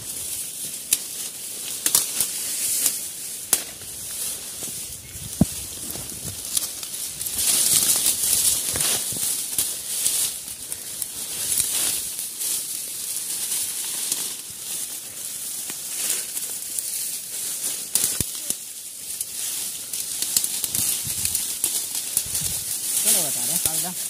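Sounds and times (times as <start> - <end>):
dry grass rustling and crackling: 0.0 - 24.0.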